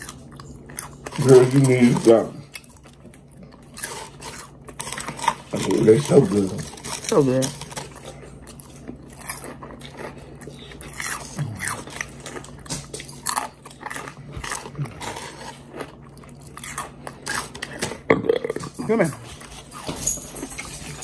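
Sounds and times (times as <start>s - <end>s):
chewing crunchy fries: 0.0s - 21.0s.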